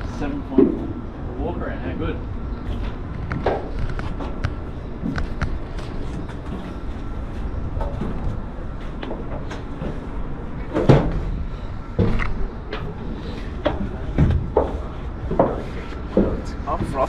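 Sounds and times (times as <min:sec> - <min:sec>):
footsteps on metal boat deck: 0:02.6 - 0:17.0.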